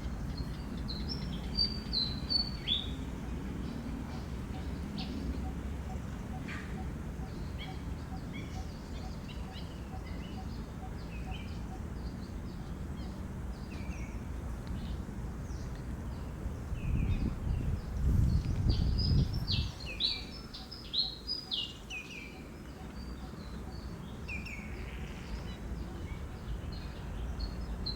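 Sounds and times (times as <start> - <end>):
low outdoor background noise: 0.0 - 27.9.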